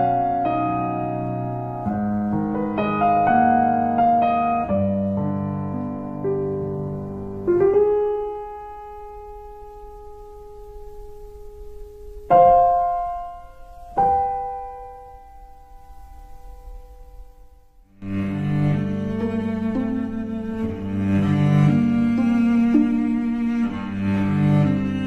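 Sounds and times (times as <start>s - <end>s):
slow solo piano music: 0.0s - 25.0s.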